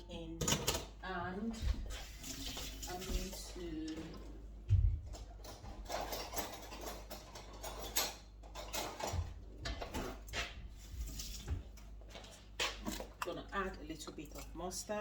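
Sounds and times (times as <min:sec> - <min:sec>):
kitchen items clicking and rustling: 0:00.4 - 0:15.0.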